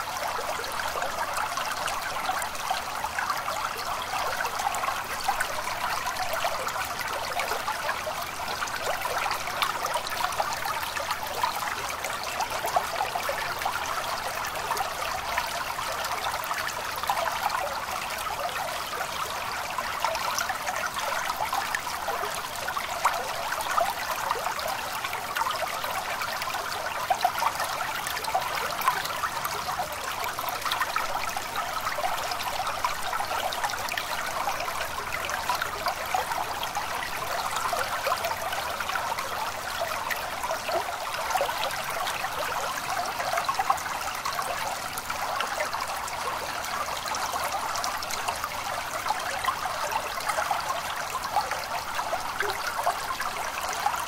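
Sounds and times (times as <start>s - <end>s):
stream trickling and babbling: 0.0s - 54.0s.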